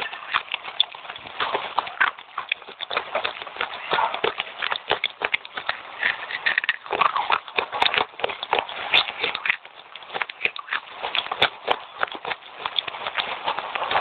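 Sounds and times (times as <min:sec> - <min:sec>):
chewing clay chips crunching: 0:00.0 - 0:14.0.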